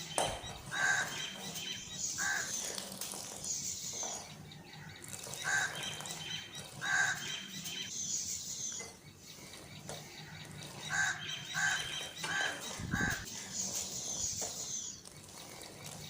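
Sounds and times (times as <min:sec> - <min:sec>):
high bird chirps: 0:00.0 - 0:16.0.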